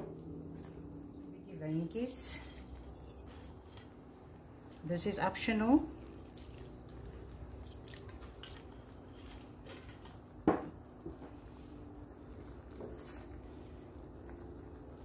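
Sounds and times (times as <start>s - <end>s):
faint steady hum: 0.0s - 15.0s
spoon stirring thick sauce: 0.0s - 15.0s.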